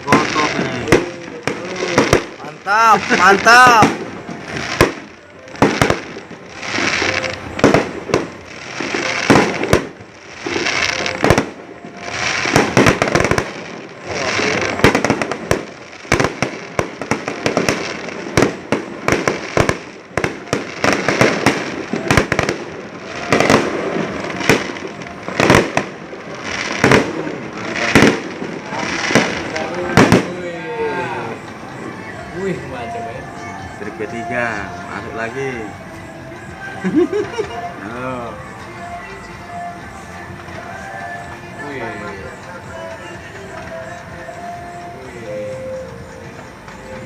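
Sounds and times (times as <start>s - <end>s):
fireworks bursting with bangs: 0.0s - 47.0s
fireworks crackling: 0.0s - 47.0s.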